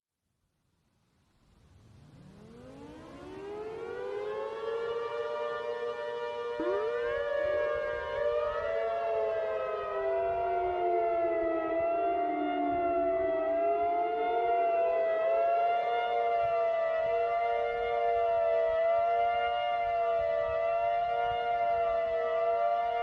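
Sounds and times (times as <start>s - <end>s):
civil defense warning sirens: 1.8s - 23.0s.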